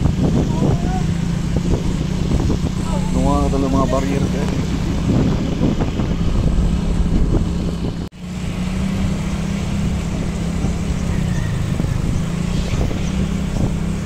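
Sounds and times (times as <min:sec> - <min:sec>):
motorcycle engine running: 0:00.0 - 0:14.0
road noise: 0:00.0 - 0:14.0.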